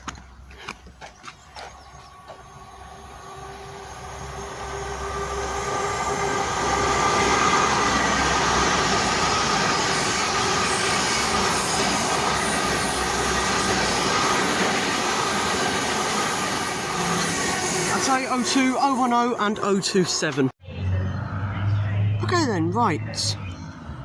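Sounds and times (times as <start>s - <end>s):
train rumble and wheel noise: 0.0s - 24.0s.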